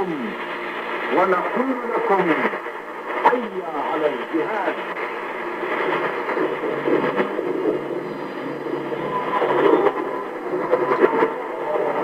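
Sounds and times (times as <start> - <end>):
faint radio tones: 0.0 - 12.0
radio rushing hiss: 0.0 - 12.0
static crackles: 0.0 - 12.0.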